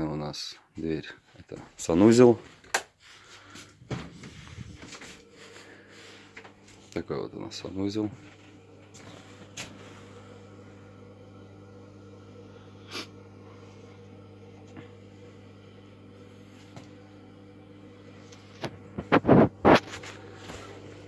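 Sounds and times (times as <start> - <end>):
steady low hum: 0.8 - 21.0.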